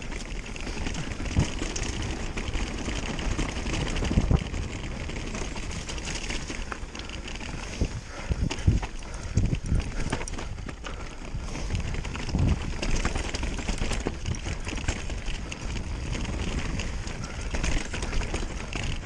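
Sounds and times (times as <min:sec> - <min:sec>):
bike rattling over bumps: 0:00.0 - 0:19.0.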